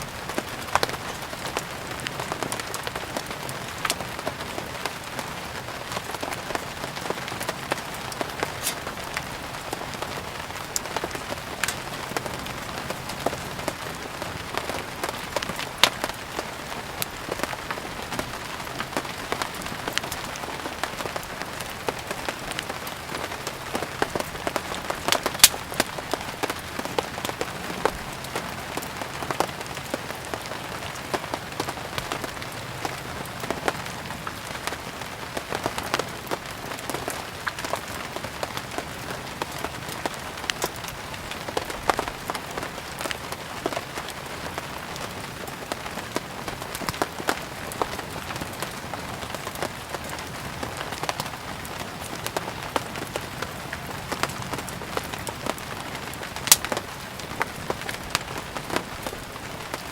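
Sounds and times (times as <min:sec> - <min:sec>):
firewood crackling and popping: 0:00.0 - 0:59.9
steady rain: 0:00.0 - 0:59.9.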